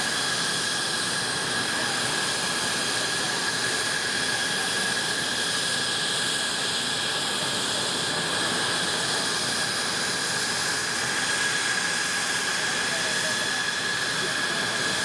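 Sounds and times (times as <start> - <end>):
jet engine idling whine: 0.0 - 15.0.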